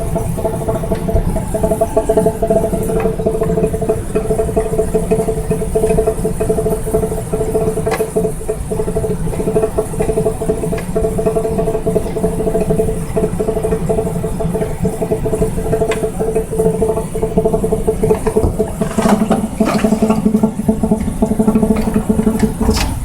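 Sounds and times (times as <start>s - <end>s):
clatter: 0.0s - 23.0s
machine humming: 0.0s - 23.0s.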